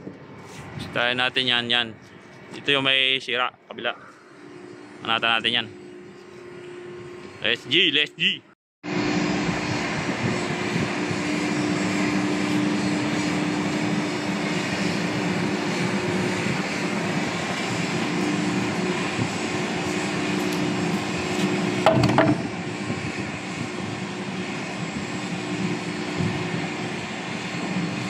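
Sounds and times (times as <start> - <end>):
ship machinery droning: 3.9 - 28.0.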